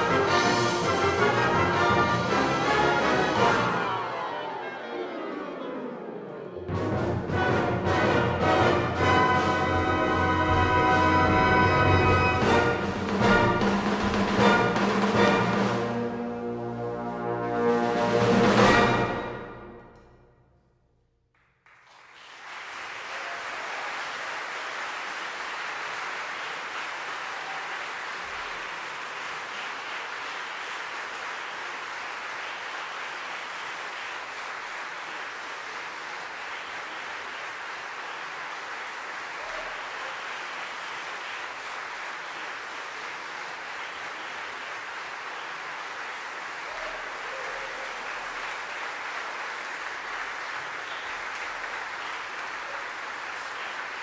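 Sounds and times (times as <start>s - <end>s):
large audience applauding: 0.0s - 4.8s, 7.1s - 16.2s, 21.3s - 54.0s.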